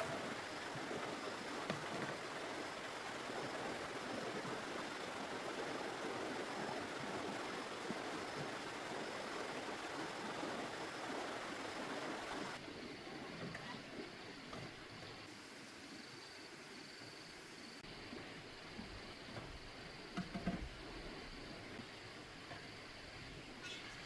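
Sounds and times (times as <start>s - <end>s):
running water: 0.0s - 24.0s.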